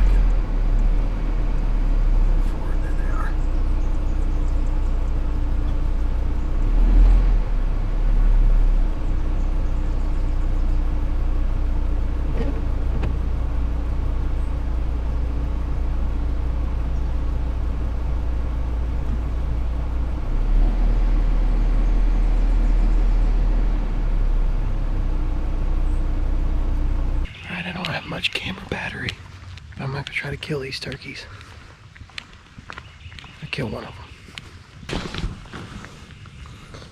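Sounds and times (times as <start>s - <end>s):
vehicle engine rumble from inside: 0.0s - 31.6s.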